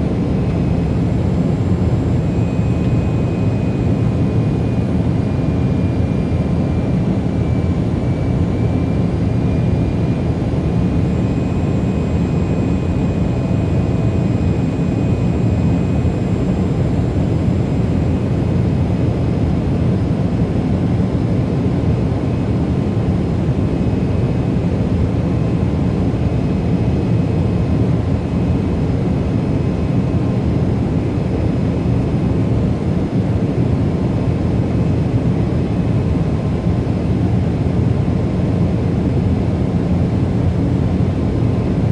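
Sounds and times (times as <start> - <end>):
faint high whine: 0.0 - 41.9
jet engine cabin noise: 0.0 - 41.9.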